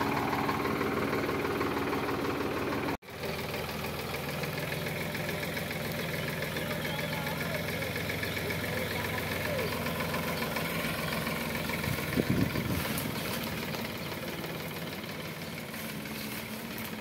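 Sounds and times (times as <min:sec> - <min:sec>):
tractor diesel engines clattering: 0:00.0 - 0:17.0.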